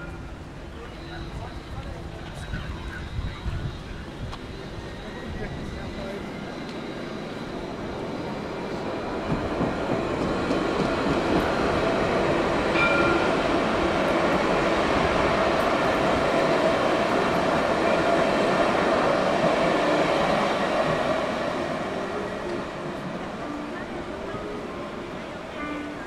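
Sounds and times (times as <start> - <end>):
tram rail rumble: 0.0 - 26.0.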